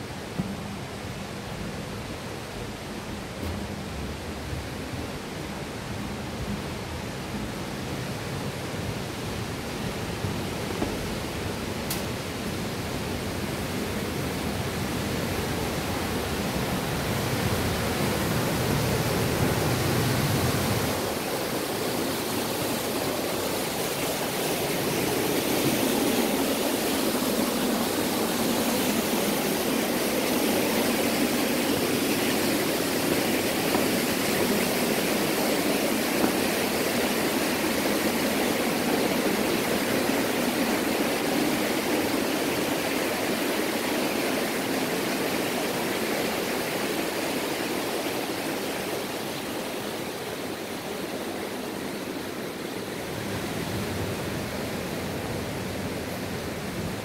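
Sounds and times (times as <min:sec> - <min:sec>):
stream and waterfall rushing: 0:00.0 - 0:57.0.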